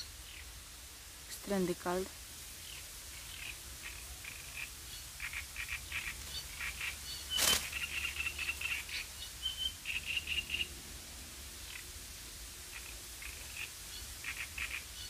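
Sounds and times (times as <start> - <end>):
small birds chirping: 0.0 - 0.7, 1.3 - 10.8, 11.6 - 15.0.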